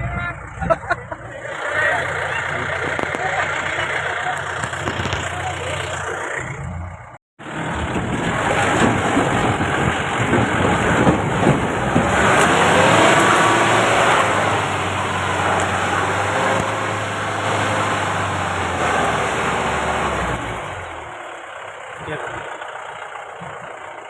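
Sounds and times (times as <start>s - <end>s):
car engine revving under load: 0.6s - 24.0s.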